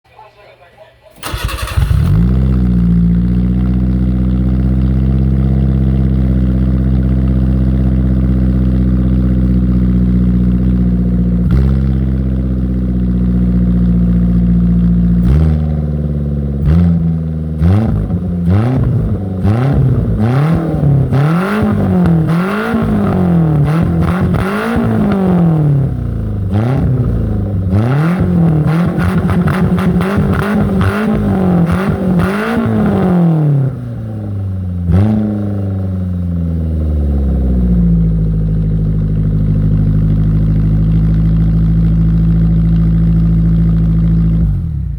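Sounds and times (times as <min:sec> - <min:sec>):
car engine idling and revving: 0:01.2 - 0:44.9.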